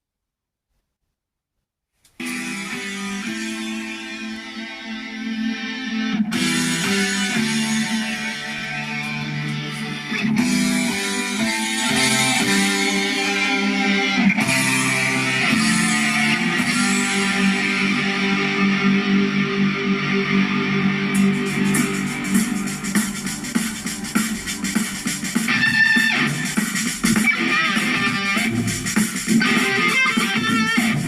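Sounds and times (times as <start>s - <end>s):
guitar-led song over speakers: 2.2s - 31.0s.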